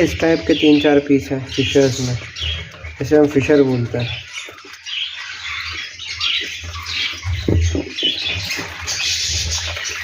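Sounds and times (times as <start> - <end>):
lovebirds chirping and squawking: 0.0 - 10.0.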